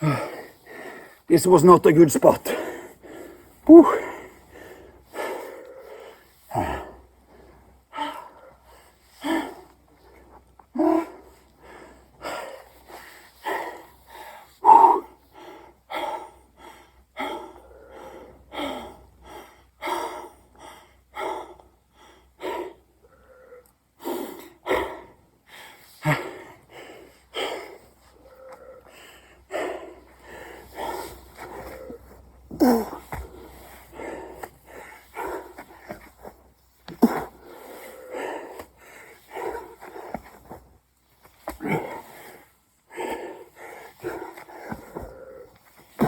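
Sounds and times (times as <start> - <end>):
man breathing heavily: 0.0 - 46.0.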